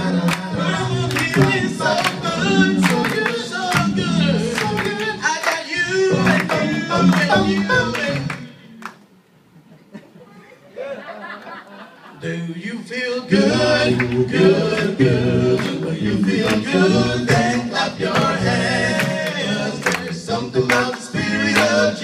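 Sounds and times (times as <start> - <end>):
voices singing a cappella: 0.0 - 8.8, 12.1 - 22.0.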